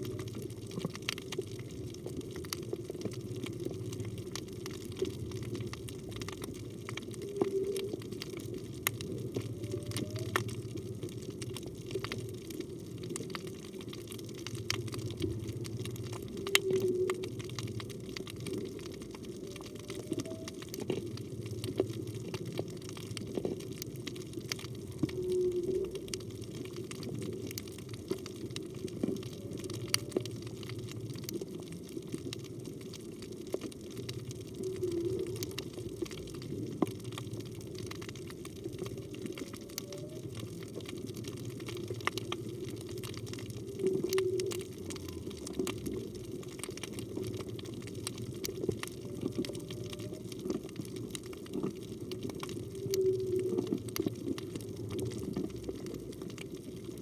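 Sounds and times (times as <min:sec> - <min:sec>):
low water noise: 0:00.0 - 0:57.0
underwater clicks crackling: 0:00.0 - 0:57.0.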